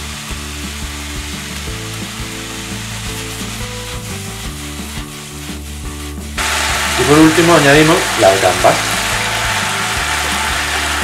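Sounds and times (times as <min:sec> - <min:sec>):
background music with low notes: 0:00.0 - 0:11.0
vegetables sizzling in oil: 0:00.0 - 0:11.0.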